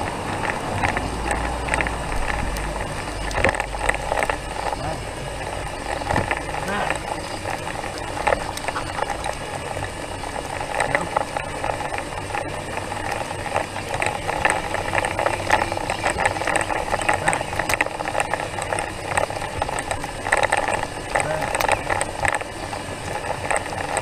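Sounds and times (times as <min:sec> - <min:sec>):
rattling road noise: 0:00.0 - 0:24.0.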